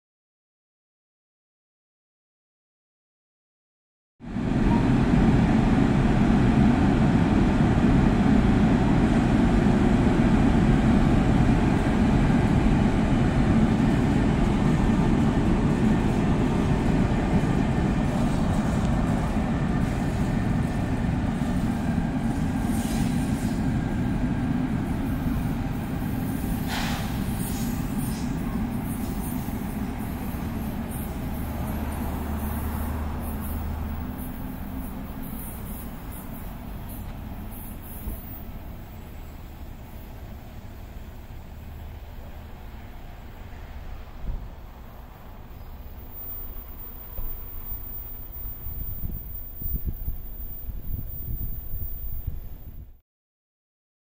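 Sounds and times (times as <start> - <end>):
passenger train rumbling past: 4.2 - 53.0.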